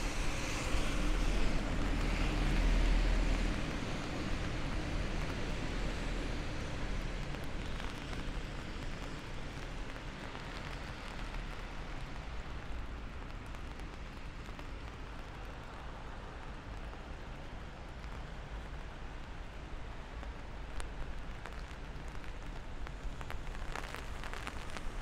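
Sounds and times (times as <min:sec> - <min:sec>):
rain on pavement: 0:00.0 - 0:25.0.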